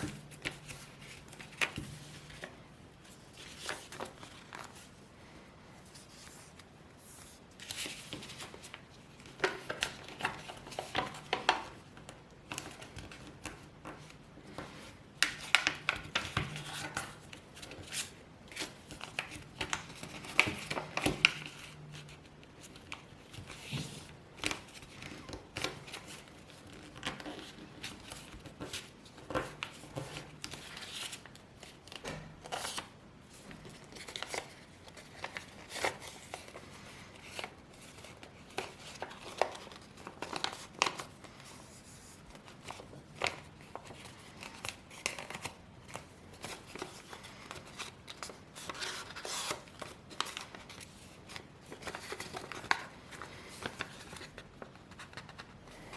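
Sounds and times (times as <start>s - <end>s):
paper rustling and crinkling: 0.0s - 5.0s, 5.8s - 55.9s.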